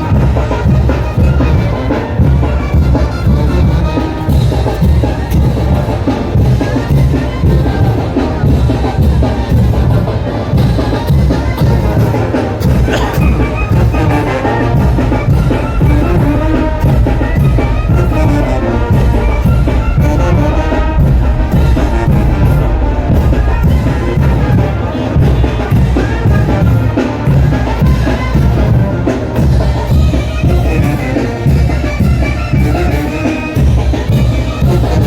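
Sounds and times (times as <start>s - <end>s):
brass band playing: 0.0s - 35.0s
steady drum beat: 0.0s - 35.0s.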